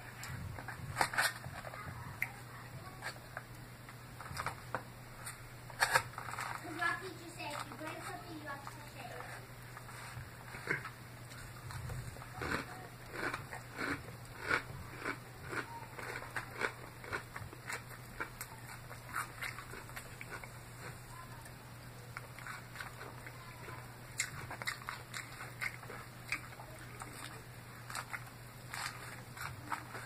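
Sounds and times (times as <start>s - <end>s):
chewing crisp salad: 4.2s - 30.0s.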